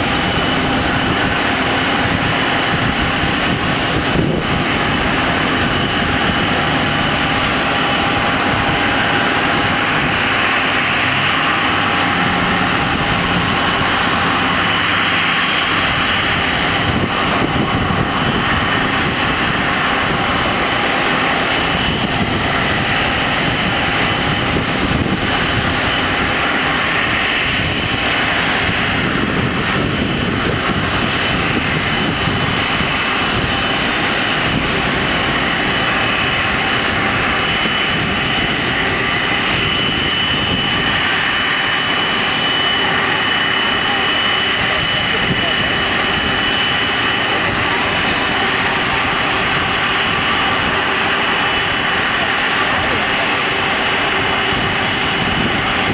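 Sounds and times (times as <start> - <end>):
jet engine roar with whine: 0.0 - 55.9.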